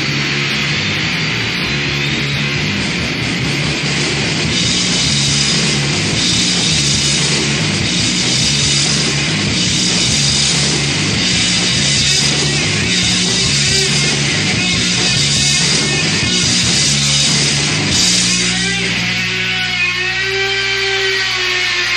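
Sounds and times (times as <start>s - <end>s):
loud live rock music: 0.0s - 21.9s.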